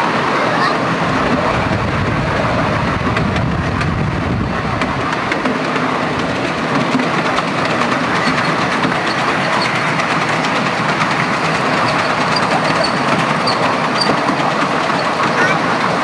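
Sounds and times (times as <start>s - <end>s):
wheels rattling on rails: 0.0s - 16.0s.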